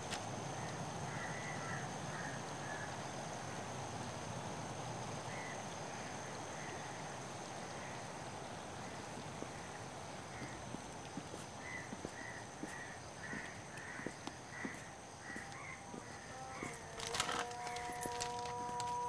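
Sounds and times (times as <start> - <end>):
steady hiss: 0.0 - 15.3.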